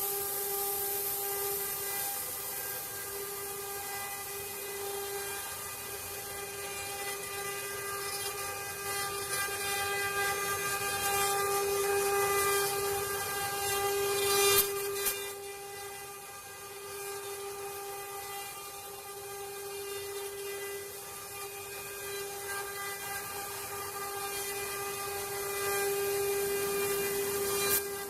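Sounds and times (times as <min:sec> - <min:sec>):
bit cutting wood: 0:00.0 - 0:28.0
router spindle high whine: 0:00.0 - 0:28.0.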